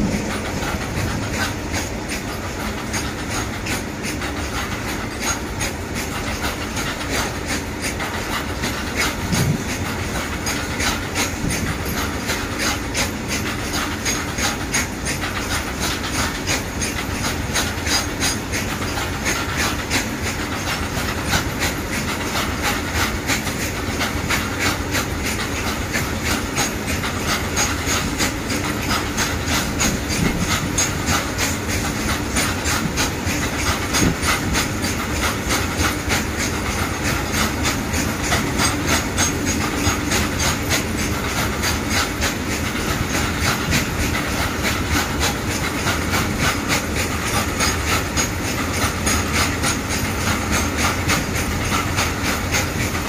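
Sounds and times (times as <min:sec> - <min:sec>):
train wheels rumbling on rails: 0:00.0 - 0:53.0
wheels clicking over rail joints: 0:00.0 - 0:53.0.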